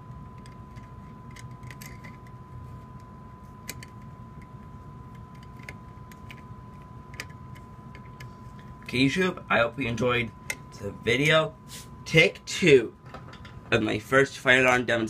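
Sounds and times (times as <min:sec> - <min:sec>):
low steady hum: 0:00.0 - 0:15.0
thin steady whine: 0:00.0 - 0:15.0.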